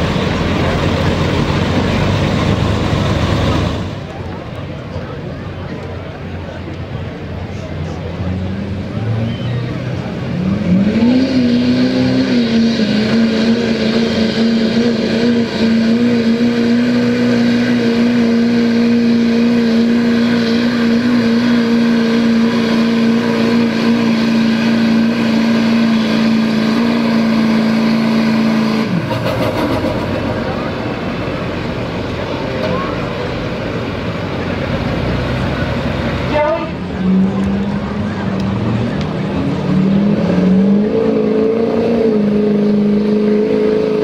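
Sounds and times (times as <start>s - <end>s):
diesel truck engine at full throttle: 0.0s - 44.0s.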